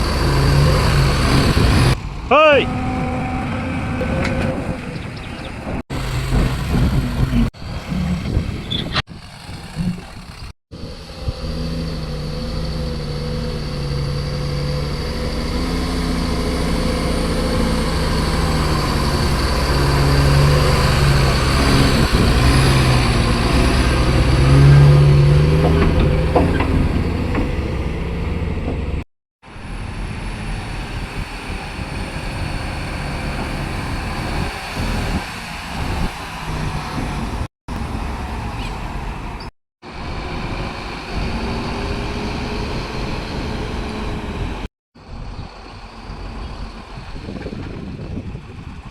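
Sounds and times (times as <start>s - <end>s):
excavator diesel engine under load: 0.0s - 48.9s.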